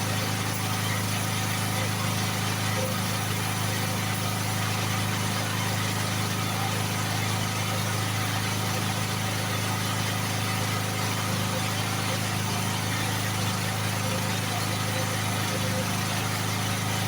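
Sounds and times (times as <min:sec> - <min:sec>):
air compressor motor hum: 0:00.0 - 0:17.0.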